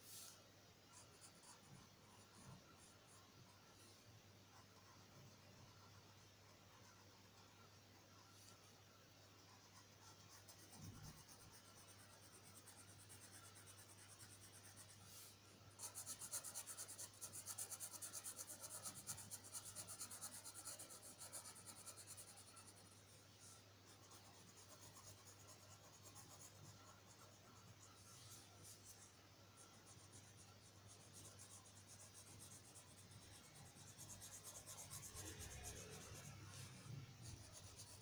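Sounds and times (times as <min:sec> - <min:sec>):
marker scratching on paper: 0:00.0 - 0:03.3, 0:09.3 - 0:38.0.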